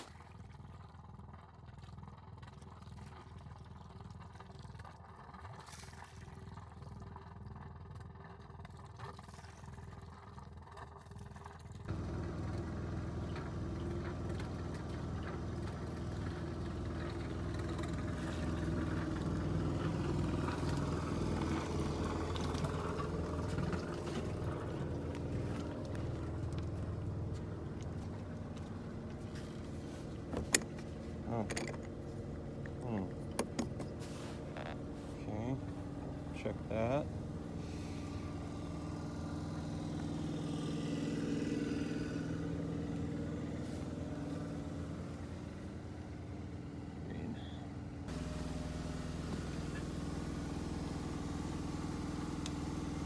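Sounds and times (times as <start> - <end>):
water splashing from hull outlet: 0.0 - 47.3
boat engine rumbling: 0.0 - 53.0.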